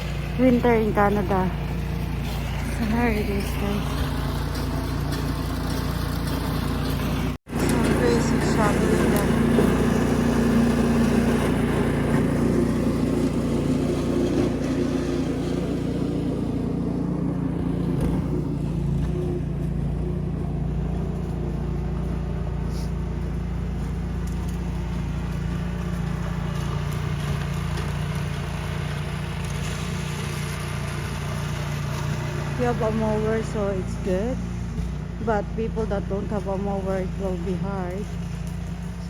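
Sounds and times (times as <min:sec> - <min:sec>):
snowblower engine running: 0:00.0 - 0:39.0.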